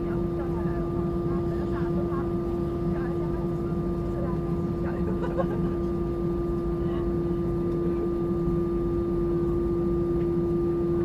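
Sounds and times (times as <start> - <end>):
airplane cabin engine drone: 0.0 - 11.0
steady hum: 0.0 - 11.0.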